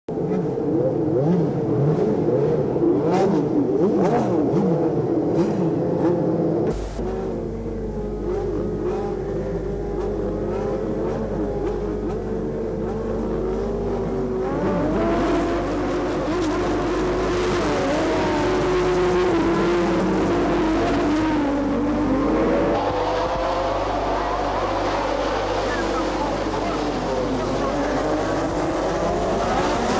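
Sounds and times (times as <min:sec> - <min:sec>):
racing car engines revving: 0:00.1 - 0:29.9.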